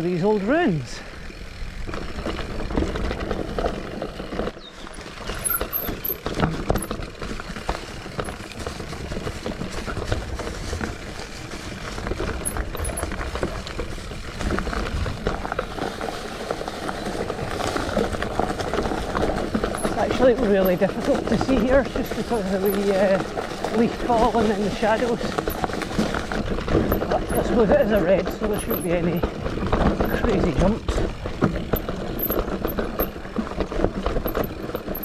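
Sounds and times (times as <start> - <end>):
bike knocking and rattling: 0.0 - 35.0
bike tyres rumbling on dirt: 0.0 - 35.0.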